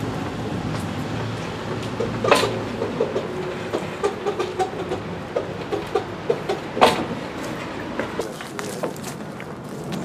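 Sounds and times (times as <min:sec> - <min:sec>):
steel wheels rolling on track: 0:00.0 - 0:10.0.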